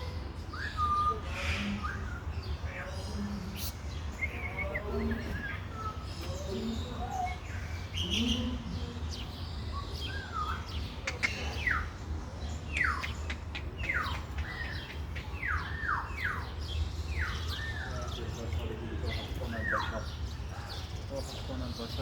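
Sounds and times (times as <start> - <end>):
bird calling with descending calls: 0.0 - 22.0.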